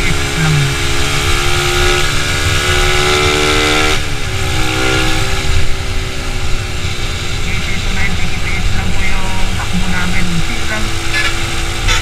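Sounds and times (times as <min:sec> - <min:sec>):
low wind rumble: 0:00.0 - 0:11.9
motorcycle engine running: 0:00.0 - 0:12.0.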